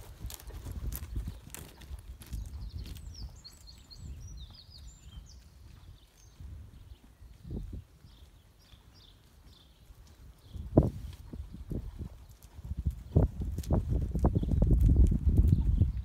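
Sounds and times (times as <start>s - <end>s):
horse hoofbeats trotting on chippings: 0.0s - 16.0s.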